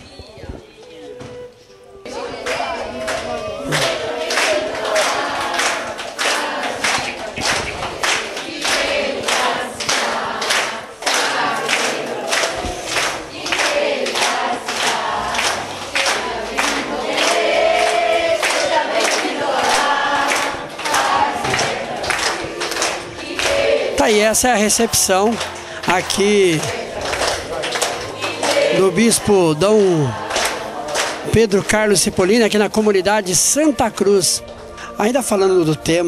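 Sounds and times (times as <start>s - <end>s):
crowd singing together: 1.2s - 34.8s
people clapping in time: 2.1s - 36.0s.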